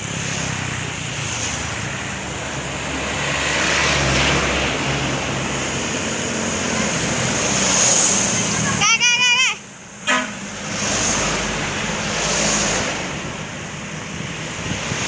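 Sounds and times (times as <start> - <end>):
heavy vehicle passing: 0.0 - 9.0, 9.7 - 15.0.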